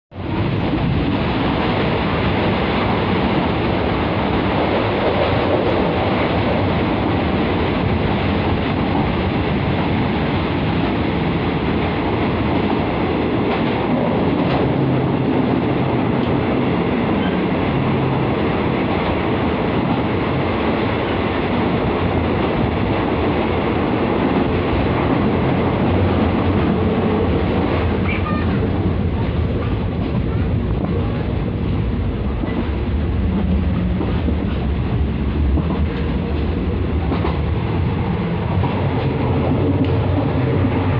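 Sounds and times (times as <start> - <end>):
train rumbling through a tunnel: 0.0 - 40.9.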